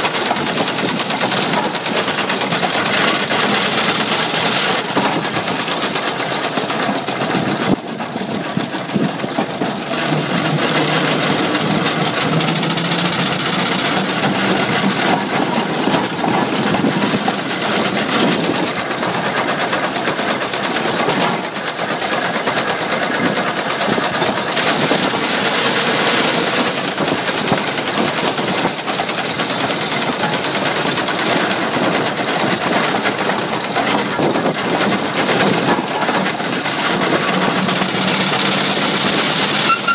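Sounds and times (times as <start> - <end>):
engine motion clatter: 0.0 - 39.9
steam engine chuffing: 0.0 - 39.9.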